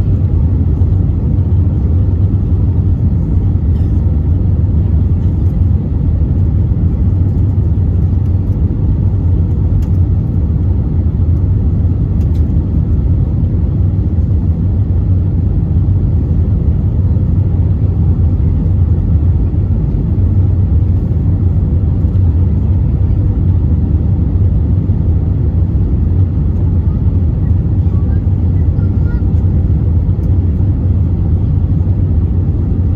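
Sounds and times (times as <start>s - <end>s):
airplane cabin engine rumble: 0.0s - 32.9s.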